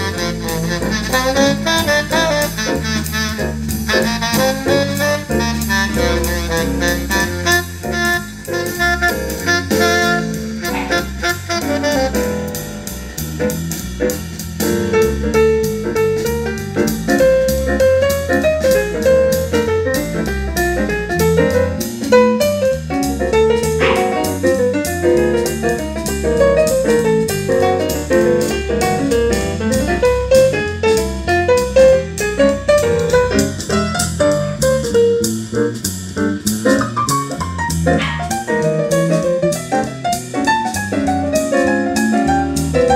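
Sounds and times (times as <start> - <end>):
jazz saxophone over piano and drums: 0.0 - 42.9.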